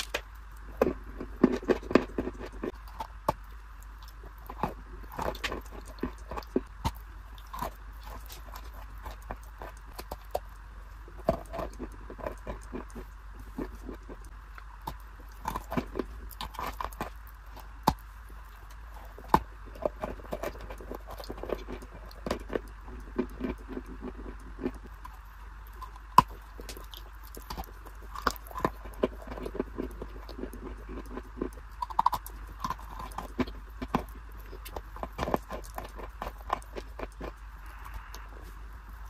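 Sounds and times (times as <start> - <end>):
crunchy biting and chewing: 0.0 - 39.0
low steady hum: 0.0 - 39.0.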